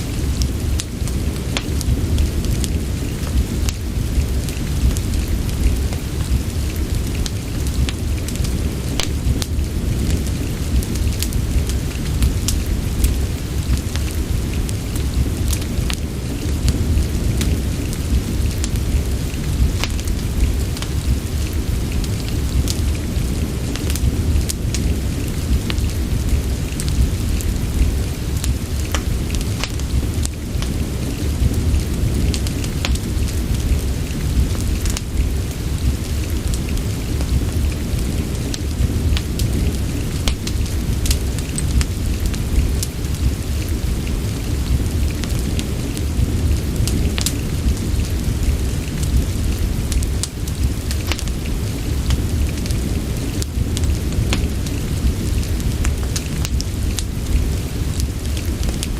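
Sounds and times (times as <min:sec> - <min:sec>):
deep continuous rumble: 0:00.0 - 0:58.9
steady rain: 0:00.0 - 0:58.9
wood fire crackling and popping: 0:00.0 - 0:58.9.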